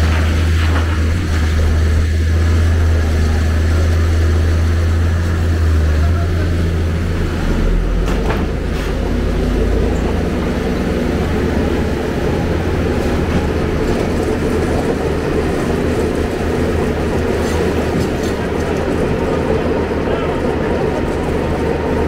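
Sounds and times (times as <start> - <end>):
excavator diesel engine droning: 0.0 - 22.0.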